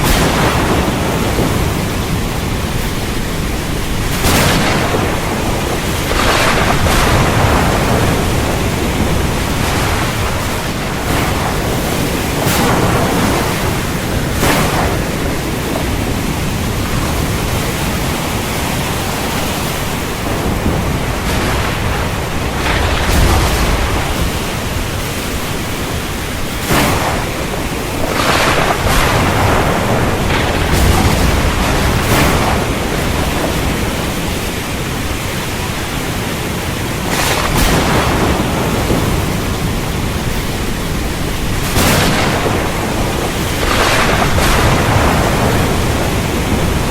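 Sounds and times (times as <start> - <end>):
heavy rain falling: 0.0 - 46.9
thunder rumbling and cracking: 0.0 - 46.9.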